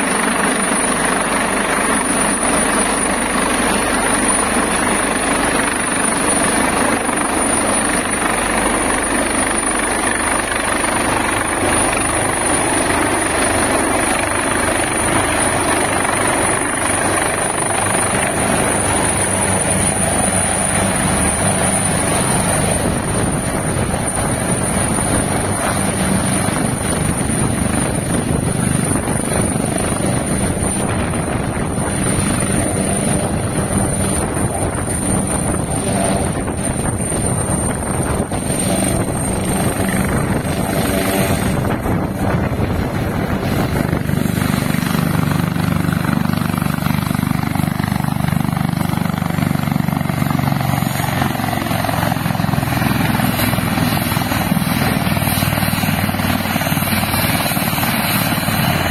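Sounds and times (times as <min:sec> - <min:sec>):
helicopter rotor and turbine: 0:00.0 - 0:58.9.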